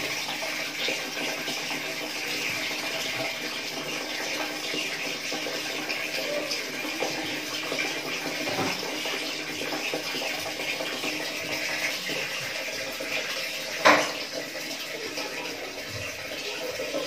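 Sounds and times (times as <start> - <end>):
water running: 0.0 - 17.0.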